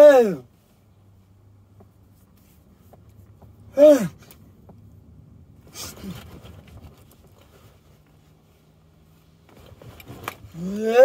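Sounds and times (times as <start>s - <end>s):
muffled car wash rumble: 0.0s - 11.0s.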